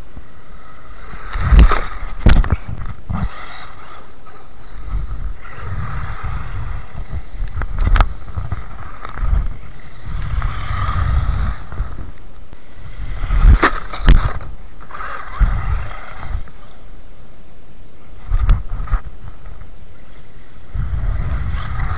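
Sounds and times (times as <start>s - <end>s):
wind buffeting microphone: 0.0s - 16.8s, 18.2s - 21.9s
rc car motor whining: 0.0s - 17.4s, 18.0s - 21.9s.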